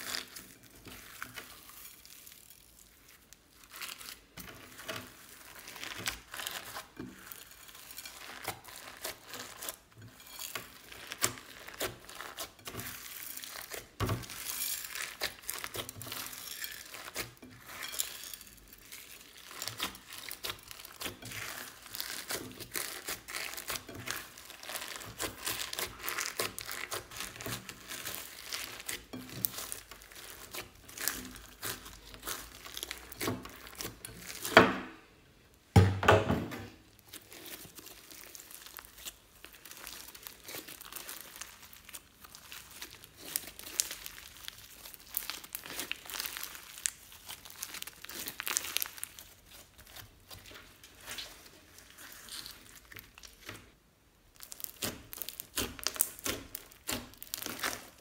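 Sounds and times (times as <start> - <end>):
hands squishing beaded slime: 0.0 - 34.6, 36.8 - 58.0.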